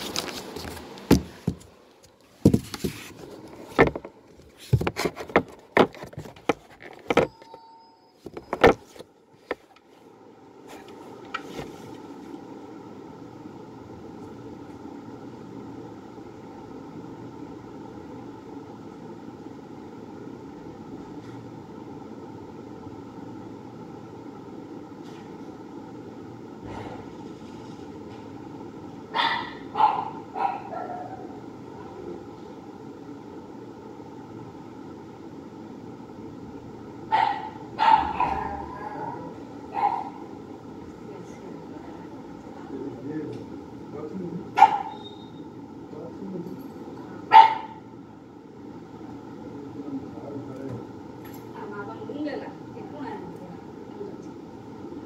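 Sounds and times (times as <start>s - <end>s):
steady whirring hum: 0.0s - 55.0s.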